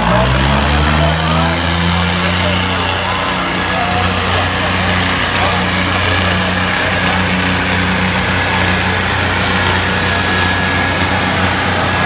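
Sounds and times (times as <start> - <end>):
tractor diesel engines under load: 0.0 - 12.0.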